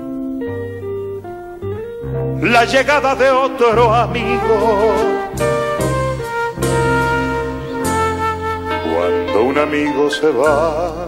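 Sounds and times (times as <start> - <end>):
guitar melody: 0.0 - 11.0
bass line: 0.6 - 11.0.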